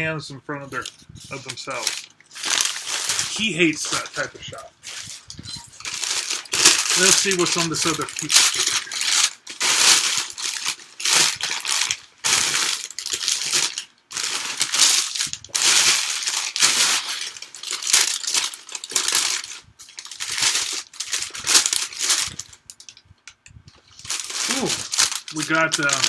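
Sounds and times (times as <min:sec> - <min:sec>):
newspaper rustling: 0:00.6 - 0:22.9, 0:23.7 - 0:26.0.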